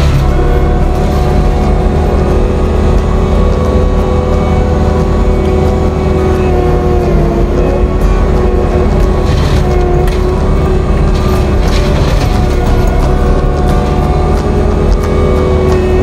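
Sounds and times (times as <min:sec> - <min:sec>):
diesel engine rumble: 0:00.0 - 0:16.0
steady whine: 0:00.0 - 0:16.0.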